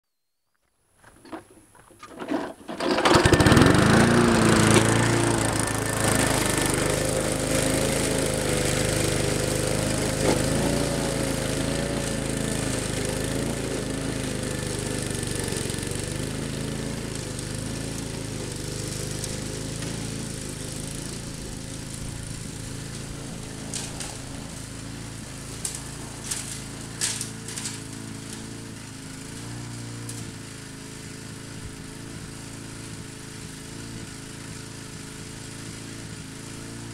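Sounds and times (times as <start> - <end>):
lawn mower engine running: 1.0 - 36.9.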